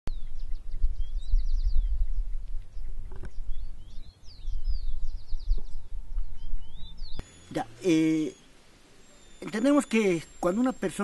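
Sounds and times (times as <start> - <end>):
birds singing: 0.1 - 11.0.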